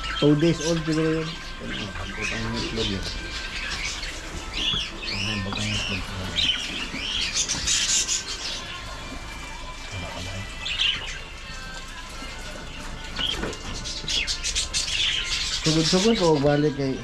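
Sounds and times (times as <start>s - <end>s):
parrots chirping and chattering: 0.0s - 17.0s.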